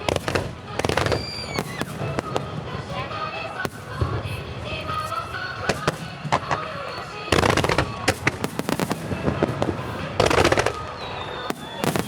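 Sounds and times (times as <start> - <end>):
crackling firework stars: 0.0 - 12.0
fireworks shells bursting: 0.0 - 12.0.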